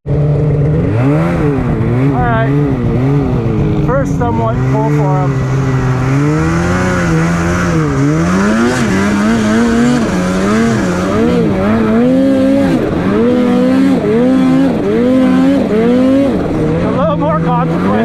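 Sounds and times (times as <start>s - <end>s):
snowmobile engine revving: 0.1s - 18.0s.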